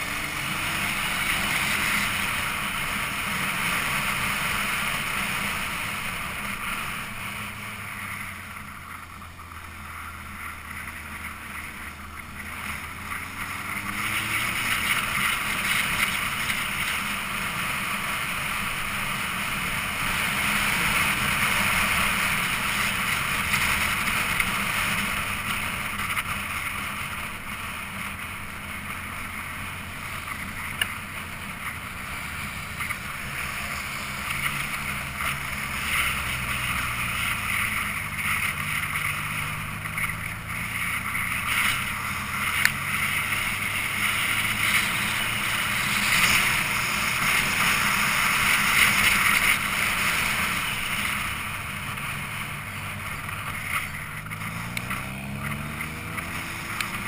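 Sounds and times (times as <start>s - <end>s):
motorcycle engine droning: 0.0s - 57.0s.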